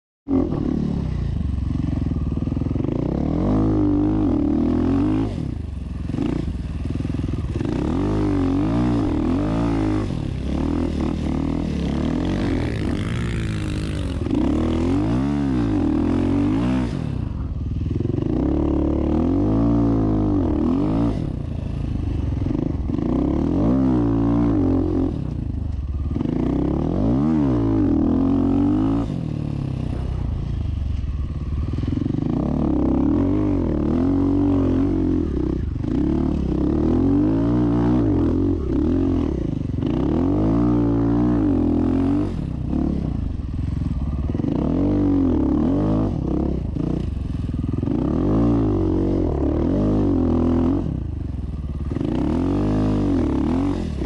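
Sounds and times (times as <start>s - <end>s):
motorcycle engine revving: 0.3s - 54.0s.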